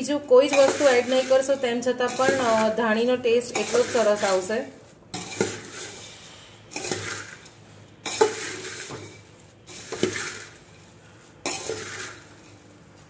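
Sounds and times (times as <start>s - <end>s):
metal spoon stirring in pot: 0.0s - 13.0s.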